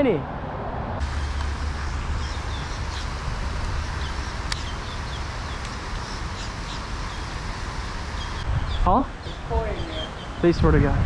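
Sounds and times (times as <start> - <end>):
outdoor rumble and hiss: 0.0 - 11.0
small birds chirping: 1.0 - 10.6.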